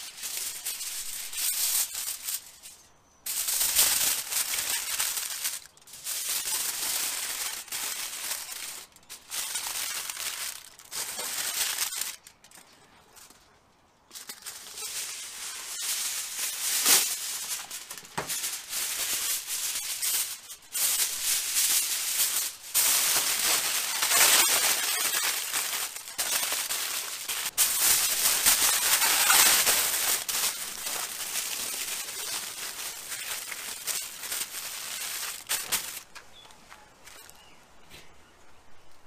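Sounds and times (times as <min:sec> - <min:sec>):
aluminium foil crinkling: 0:00.0 - 0:37.6.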